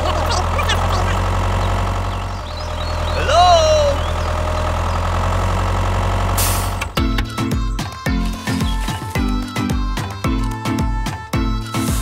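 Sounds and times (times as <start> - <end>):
tractor engine idling: 0.0 - 10.2.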